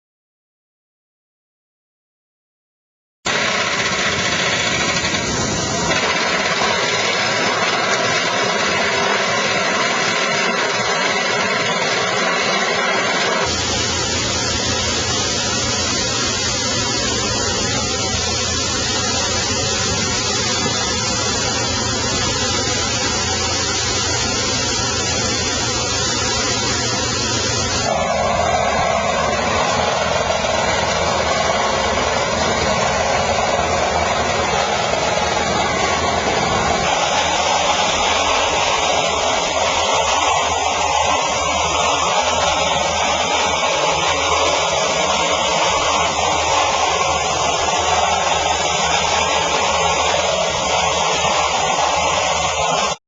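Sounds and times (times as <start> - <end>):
excavator engine running: 3.3 - 53.0.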